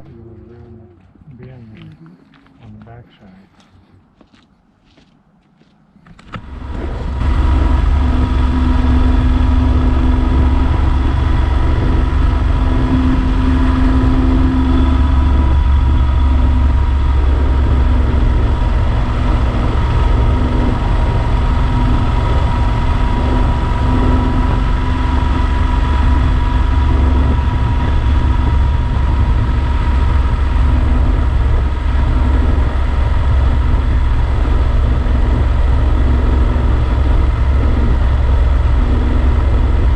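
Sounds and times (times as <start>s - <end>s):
road noise: 0.0s - 39.9s
motorcycle engine running: 6.2s - 39.9s.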